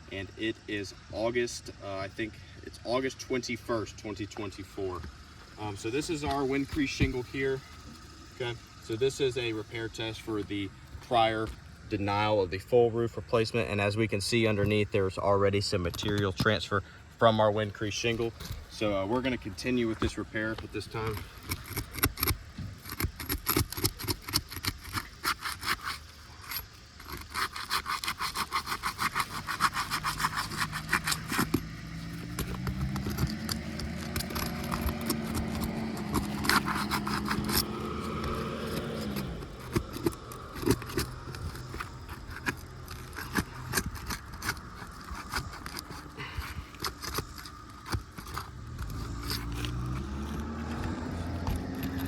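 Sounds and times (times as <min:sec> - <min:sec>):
roof shingles scraping and clicking: 0:03.0 - 0:12.4, 0:13.8 - 0:52.0.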